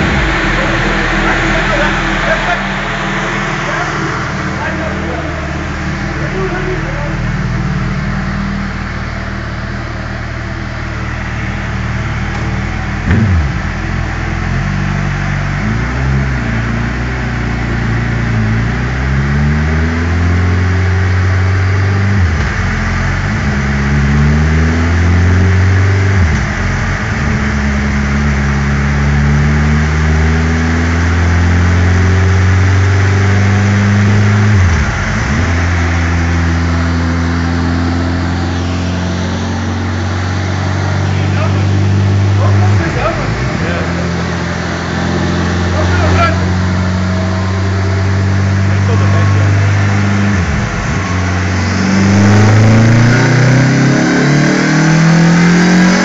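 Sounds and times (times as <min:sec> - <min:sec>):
motorcycle engine revving on dyno: 0:00.0 - 0:56.0.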